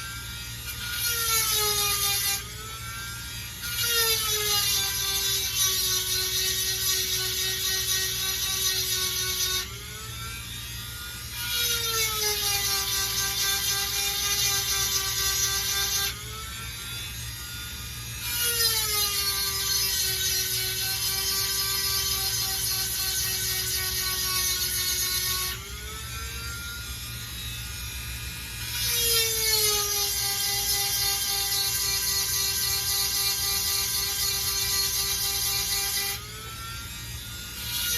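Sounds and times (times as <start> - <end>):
rotary tool motor whining: 0.0 - 37.9.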